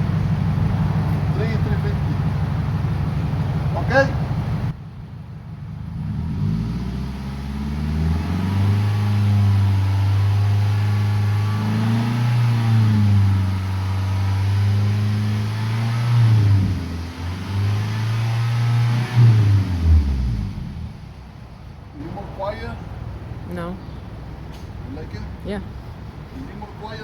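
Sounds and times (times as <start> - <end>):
car engine revving: 0.0 - 4.8, 5.5 - 22.8.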